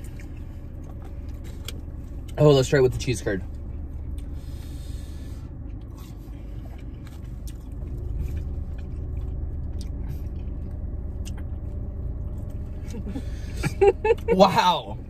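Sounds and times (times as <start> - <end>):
person chewing: 0.0 - 2.4, 3.4 - 13.2
steady low rumble: 0.0 - 15.0.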